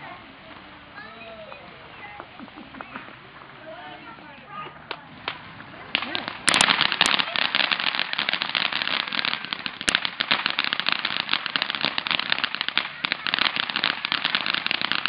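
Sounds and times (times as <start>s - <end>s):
firework fountain crackling: 0.0s - 15.0s.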